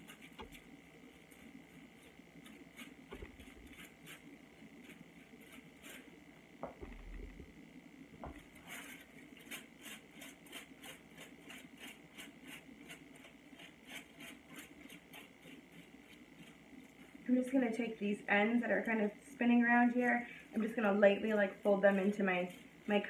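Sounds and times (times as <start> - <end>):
scratchy brush strokes: 0.0 - 6.2, 8.4 - 18.0, 18.6 - 23.0.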